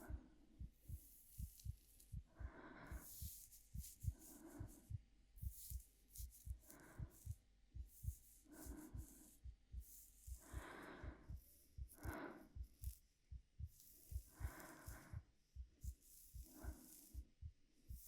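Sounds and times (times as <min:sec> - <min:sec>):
heartbeat thumps: 0:00.0 - 0:18.0
soft breathing: 0:00.0 - 0:18.0.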